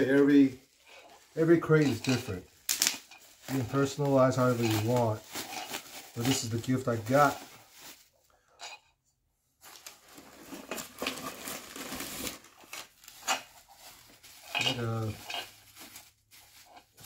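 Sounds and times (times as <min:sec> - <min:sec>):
bubble wrap crinkling: 0:00.0 - 0:08.3, 0:09.6 - 0:17.0.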